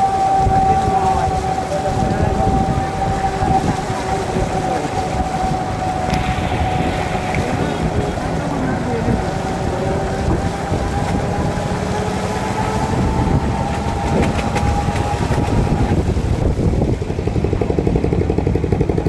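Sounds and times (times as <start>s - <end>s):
small vehicle engine running: 1.3s - 19.0s.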